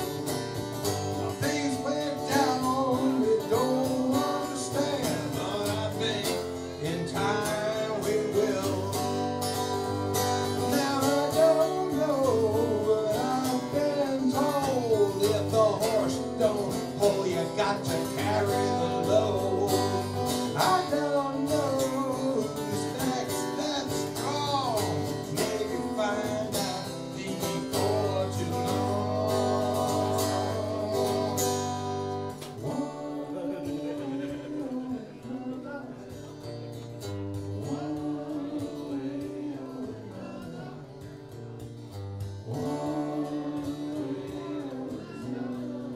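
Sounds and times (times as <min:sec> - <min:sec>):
acoustic guitar strummed: 0:00.0 - 0:45.9.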